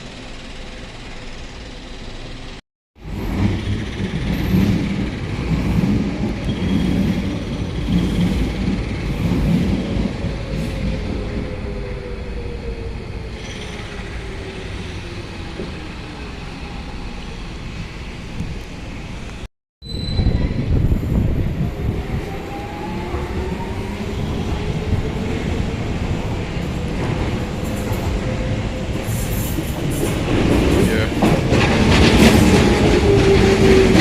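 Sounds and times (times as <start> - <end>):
train whine: 0.0 - 19.5, 20.2 - 34.0
train rumbling: 0.0 - 34.0.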